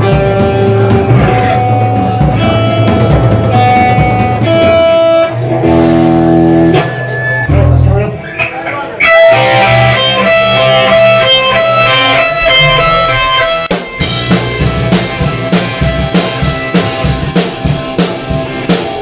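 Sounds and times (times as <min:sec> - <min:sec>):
drum kit beat: 0:00.0 - 0:08.0, 0:09.0 - 0:19.0
electric guitar chords: 0:00.0 - 0:19.0.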